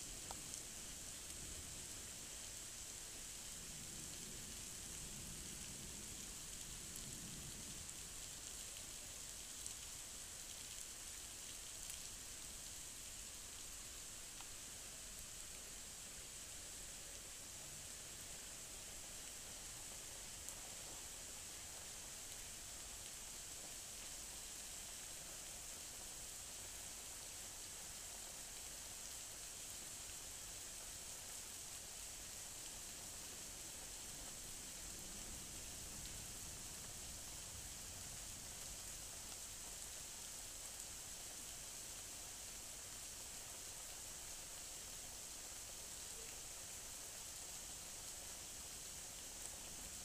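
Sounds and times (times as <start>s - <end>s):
heavy rain on paving and foliage: 0.0s - 50.0s.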